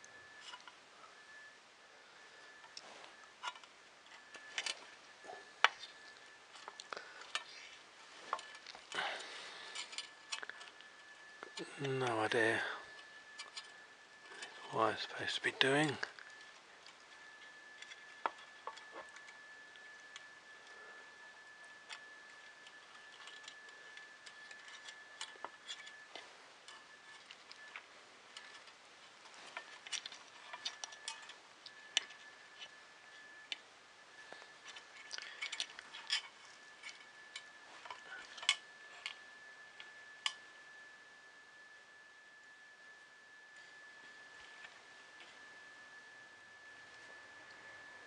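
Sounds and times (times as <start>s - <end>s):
faint high whine: 0.0s - 48.0s.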